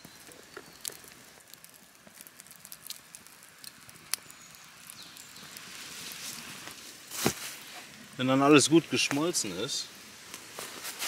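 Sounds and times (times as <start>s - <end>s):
fire pops: 0.0s - 9.5s
fire crackling: 0.0s - 11.0s.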